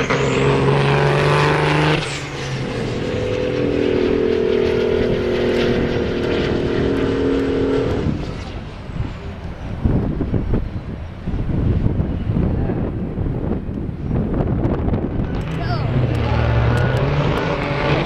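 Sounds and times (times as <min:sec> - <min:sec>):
truck diesel engine droning: 0:00.0 - 0:12.5, 0:14.4 - 0:18.0.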